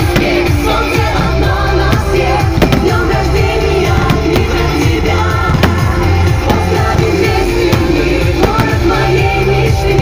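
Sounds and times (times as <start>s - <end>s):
firework bangs: 0.0s - 10.0s
loud pop music with singing: 0.0s - 10.0s.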